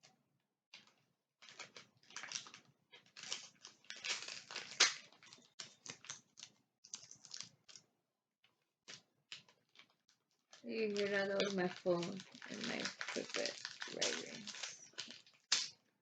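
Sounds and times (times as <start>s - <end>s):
paper wrapping tearing: 0.8s - 7.8s, 8.9s - 15.8s.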